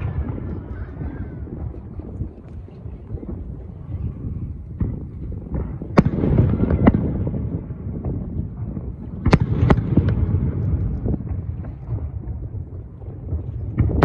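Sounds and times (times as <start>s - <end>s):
continuous low rumble: 0.0s - 14.0s
fireworks bursting with sharp bangs: 0.0s - 14.0s.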